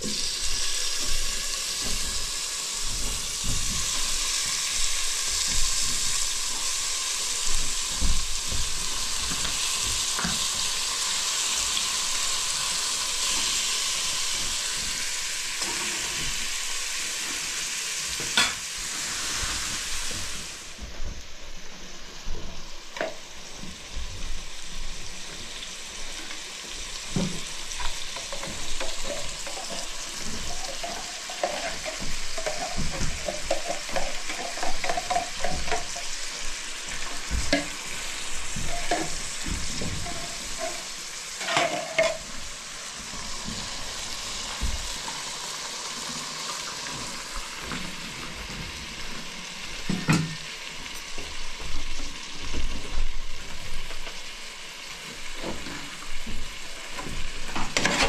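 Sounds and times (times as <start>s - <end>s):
food sizzling in pot: 0.0s - 58.0s.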